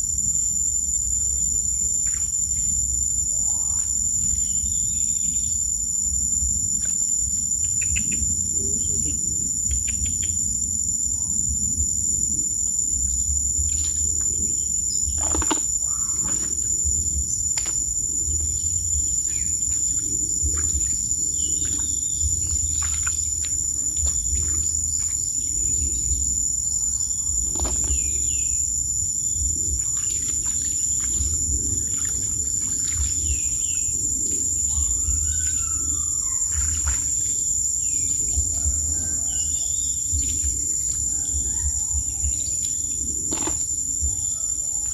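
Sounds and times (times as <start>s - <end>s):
insect chorus drone: 0.0s - 44.9s
low rumble: 4.0s - 44.6s.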